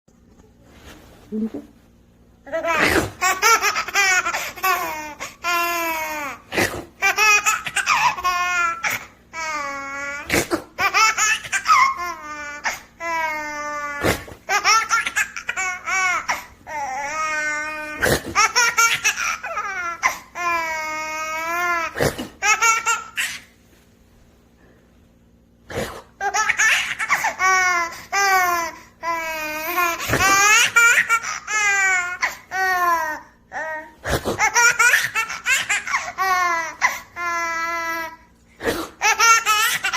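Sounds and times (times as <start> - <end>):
baby laughing: 2.5 - 23.6, 26.2 - 38.2, 38.9 - 39.9.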